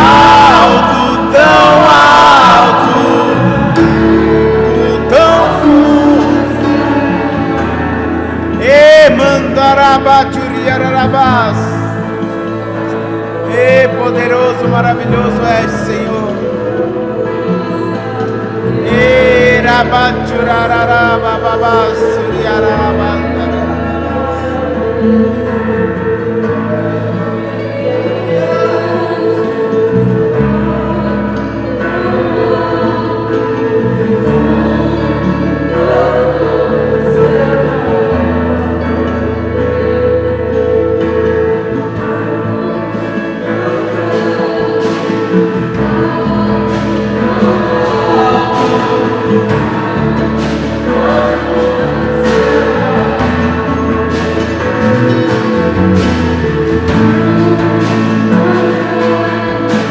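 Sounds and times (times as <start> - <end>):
bass notes: 0.0 - 59.9
keyboard chords: 0.0 - 59.9
many voices singing: 0.0 - 59.9.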